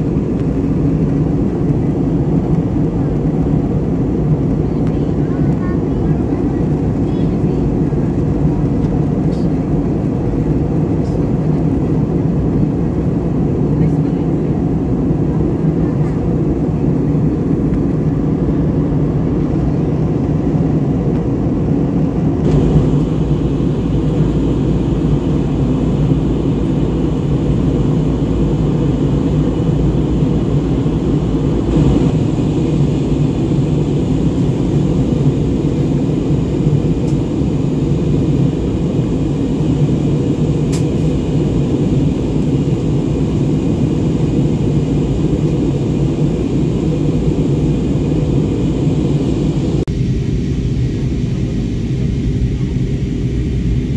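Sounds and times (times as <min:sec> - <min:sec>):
airliner cabin noise: 0:00.0 - 0:53.9.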